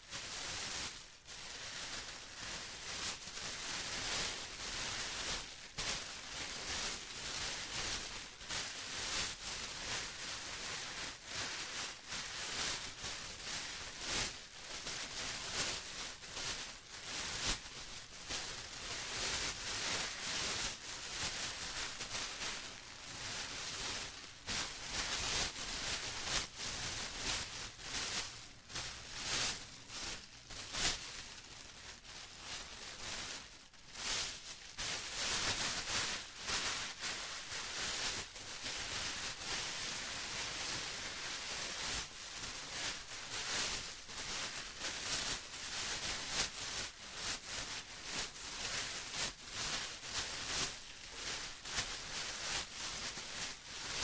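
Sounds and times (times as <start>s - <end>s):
plastic rustling and crinkling: 0.0s - 54.0s.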